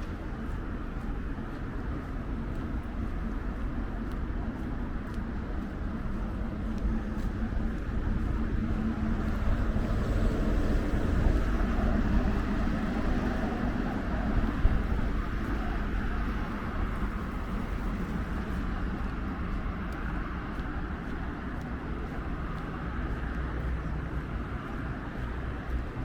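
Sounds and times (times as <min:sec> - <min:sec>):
vehicle engine hum: 0:00.0 - 0:26.0
wind on microphone: 0:00.0 - 0:26.0.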